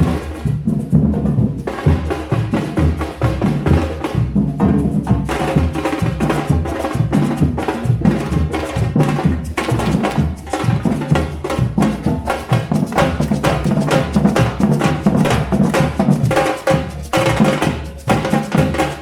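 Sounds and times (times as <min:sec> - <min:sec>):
parade drumming: 0:00.0 - 0:19.0.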